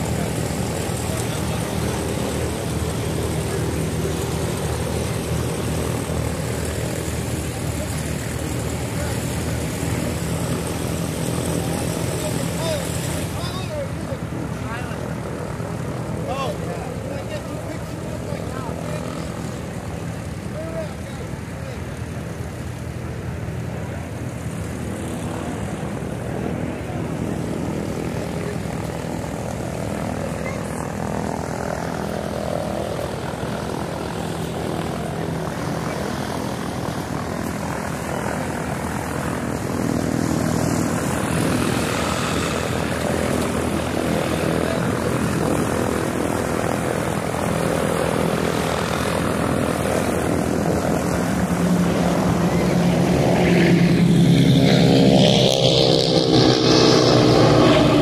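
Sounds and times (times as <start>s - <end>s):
propeller aircraft engine running: 0.0s - 58.0s.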